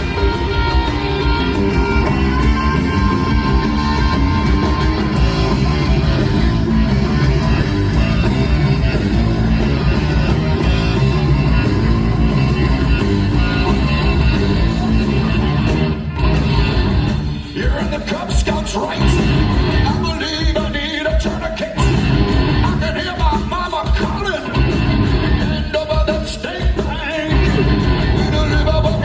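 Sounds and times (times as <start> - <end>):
bass guitar: 0.0 - 29.0
drums: 0.0 - 29.0
electric guitars: 0.0 - 29.0.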